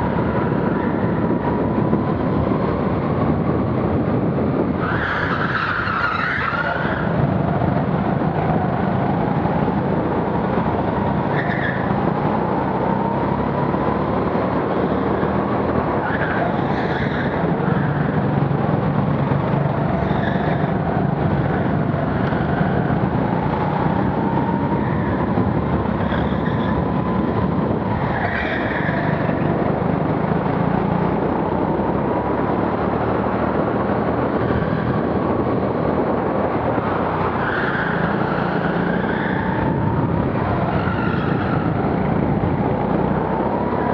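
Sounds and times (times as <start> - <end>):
go-kart engine at speed: 0.0 - 43.9.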